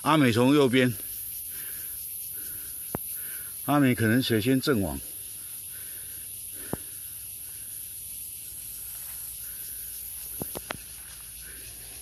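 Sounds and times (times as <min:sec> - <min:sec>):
insects high-pitched hiss: 0:00.0 - 0:12.0.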